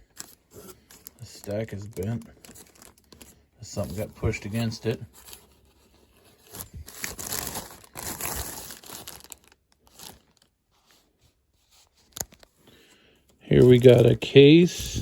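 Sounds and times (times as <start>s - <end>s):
packaging crinkling and rustling: 0.0s - 12.6s.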